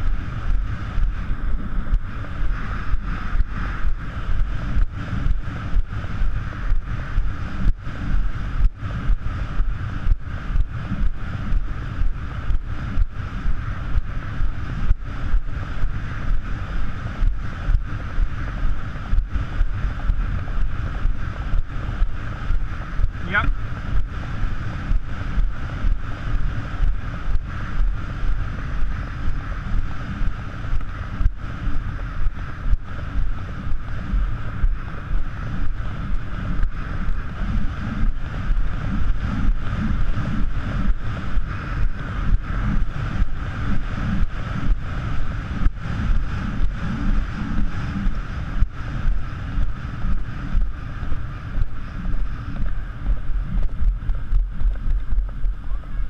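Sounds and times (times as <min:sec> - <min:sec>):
vehicle driving fast on sand: 0:00.0 - 0:56.0
wind buffeting microphone: 0:00.0 - 0:56.0.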